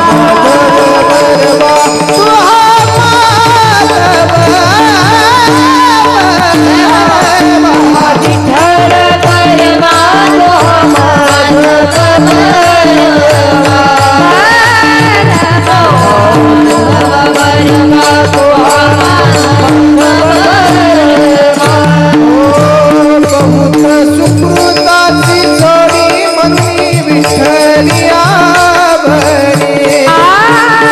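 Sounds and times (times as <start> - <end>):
rapid hand drum strokes: 0.0 - 30.9
woman singing: 0.0 - 30.9.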